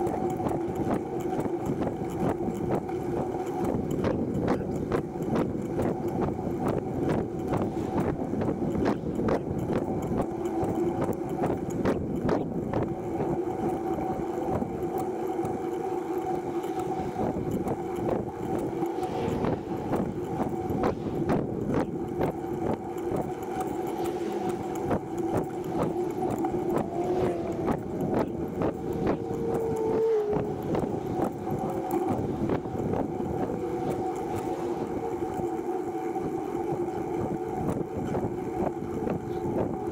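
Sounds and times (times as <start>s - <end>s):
small rattles and clicks: 0.0s - 39.9s
tricycle rolling on paved path: 0.0s - 39.9s.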